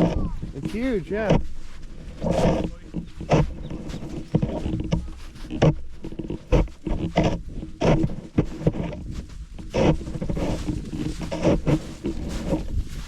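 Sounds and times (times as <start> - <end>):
footsteps crunching in snow: 0.0 - 13.0
wind on microphone: 0.0 - 13.0.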